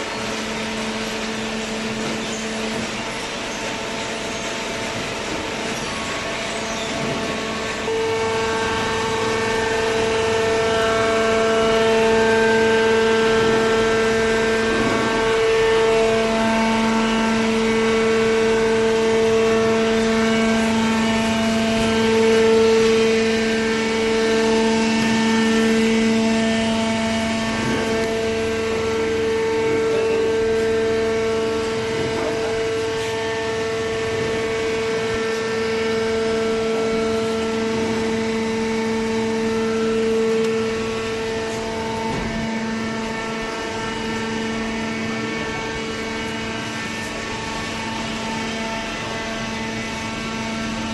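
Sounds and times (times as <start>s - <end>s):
baler machine drone: 0.0s - 50.9s
low hum: 0.0s - 50.9s.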